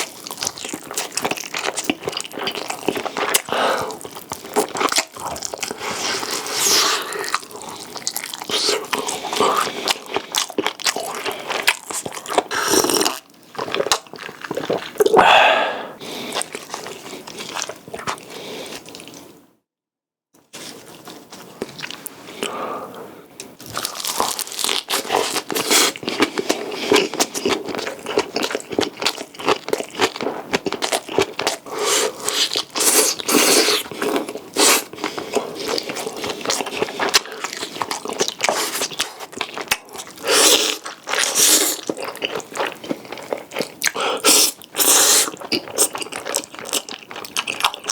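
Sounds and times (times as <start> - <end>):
crisp chewing crunches: 0.0 - 15.2, 16.2 - 19.2, 23.6 - 47.9.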